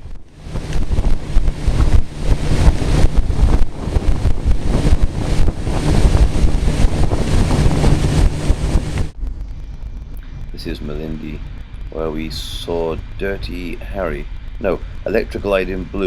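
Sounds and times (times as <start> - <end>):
low vehicle rumble: 0.0 - 16.0
wind buffeting microphone: 0.0 - 16.0.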